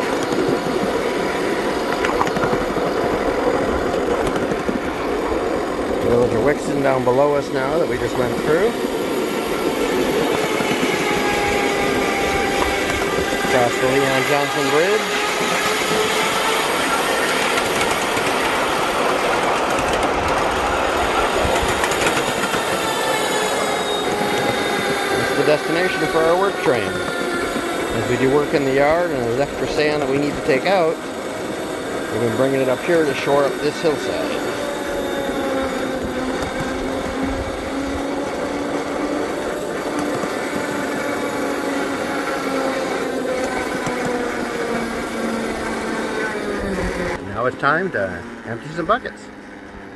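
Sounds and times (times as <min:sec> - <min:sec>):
train wheels rumbling on track: 0:00.0 - 0:49.9
wavering hum: 0:00.0 - 0:49.9.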